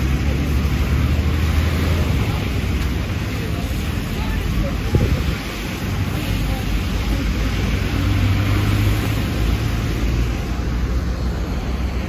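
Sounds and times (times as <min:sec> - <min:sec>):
bus engine humming: 0:00.0 - 0:12.0
road noise rushing: 0:00.0 - 0:12.0.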